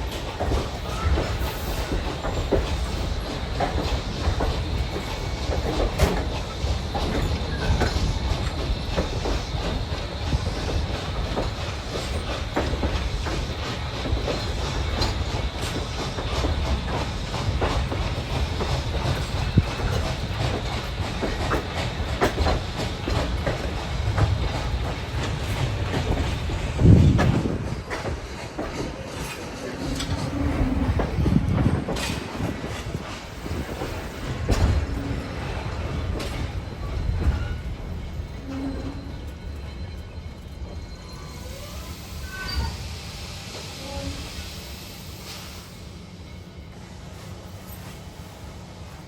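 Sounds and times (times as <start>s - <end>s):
rail clicks and clacks: 0.0s - 49.0s
train wheels rumbling: 0.0s - 49.0s.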